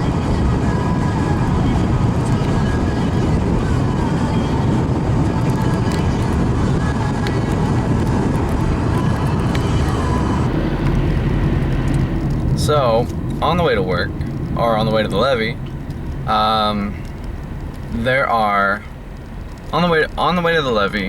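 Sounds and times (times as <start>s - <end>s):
road noise: 0.0s - 21.0s
vehicle engine rumble: 0.0s - 21.0s.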